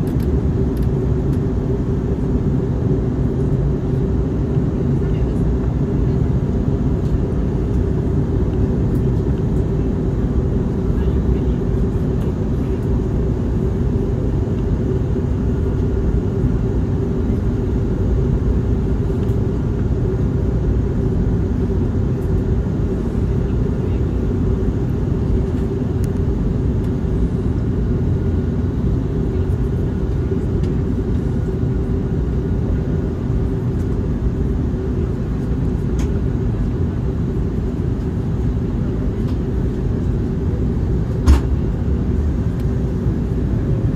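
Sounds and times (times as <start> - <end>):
constant low hum: 0.0 - 43.9
jet engines droning: 0.0 - 43.9.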